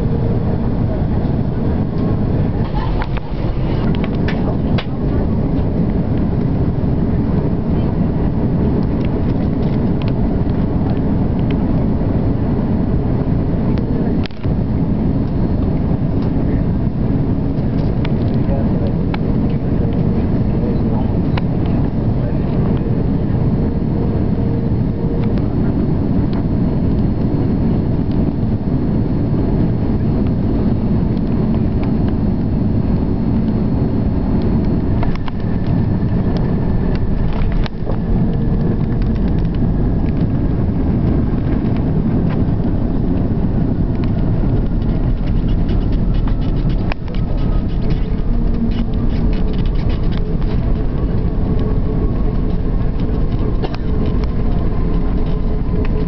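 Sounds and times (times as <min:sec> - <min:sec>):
airplane cabin rumble: 0:00.0 - 0:56.0
faint jet engine whine: 0:00.0 - 0:56.0.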